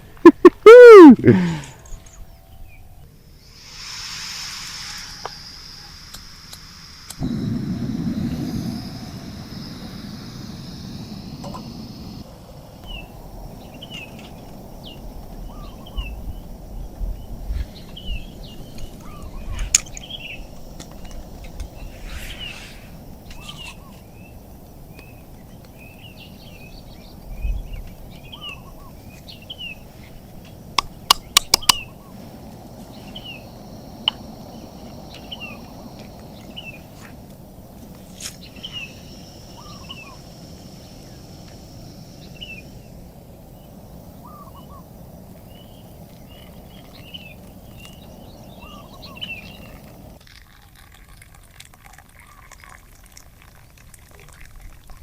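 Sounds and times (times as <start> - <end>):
forest birds chirping: 0.0 - 50.2.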